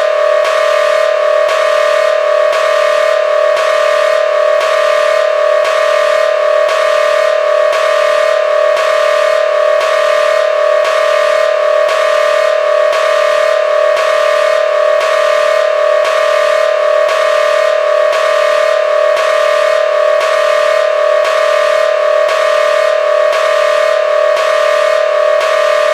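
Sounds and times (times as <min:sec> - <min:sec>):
pulsing two-tone electronic alarm: 0:00.0 - 0:25.9.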